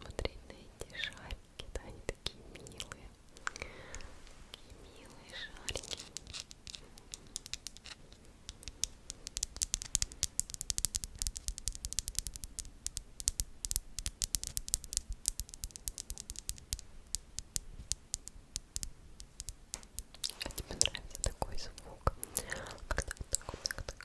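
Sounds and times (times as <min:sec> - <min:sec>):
mouth clicks and pops: 0:00.8 - 0:24.0.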